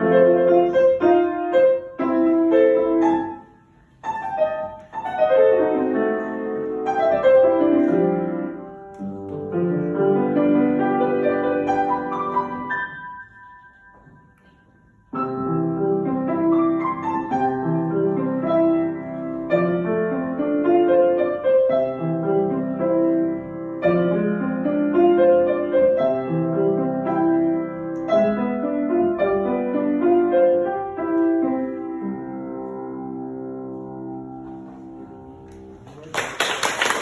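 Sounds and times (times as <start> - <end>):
acoustic piano piece: 0.0 - 37.0.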